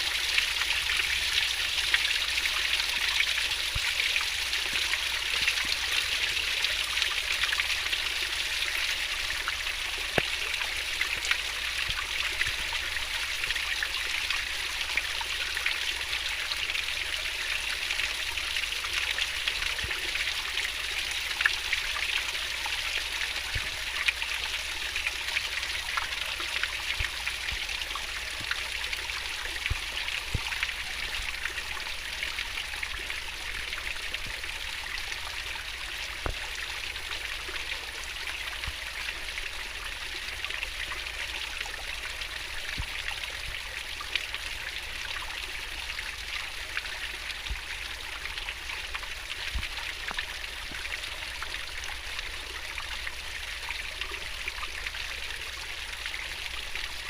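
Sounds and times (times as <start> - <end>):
stream babbling over rocks: 0.0 - 57.0.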